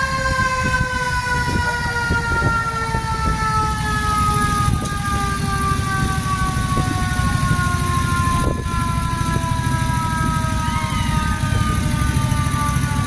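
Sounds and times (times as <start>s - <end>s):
military vehicle engine running: 0.0s - 13.0s.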